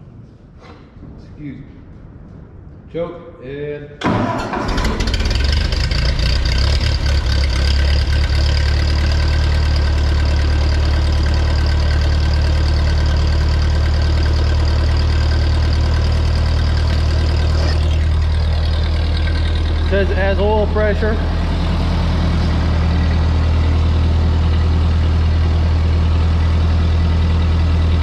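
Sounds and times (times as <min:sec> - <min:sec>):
tractor engine idling: 0:04.0 - 0:28.0.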